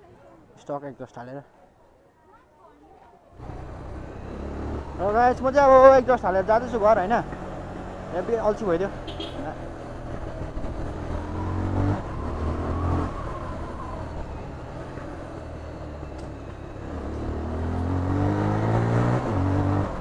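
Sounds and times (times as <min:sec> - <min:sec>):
motorcycle engine revving: 0:03.4 - 0:20.0.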